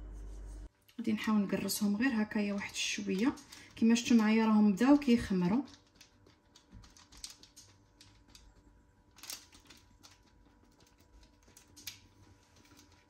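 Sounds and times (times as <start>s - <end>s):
bread crust crackling under hand: 1.8s - 13.0s.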